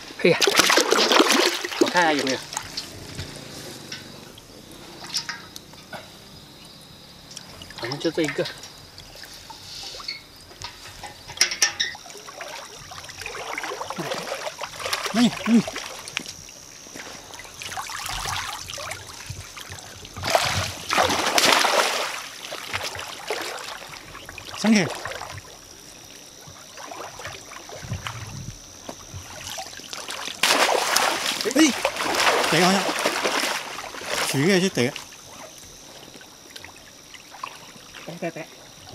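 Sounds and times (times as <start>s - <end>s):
muddy water splashing and trickling: 0.0s - 38.9s.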